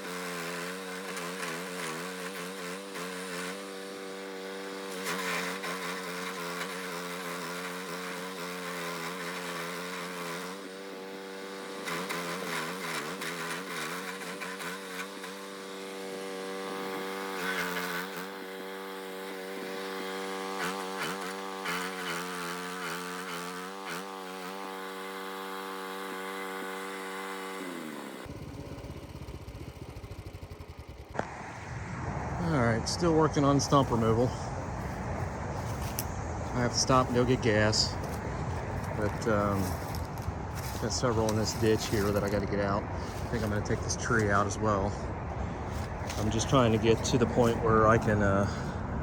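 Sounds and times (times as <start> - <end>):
stump grinder engine running: 0.0 - 31.4, 32.4 - 49.0.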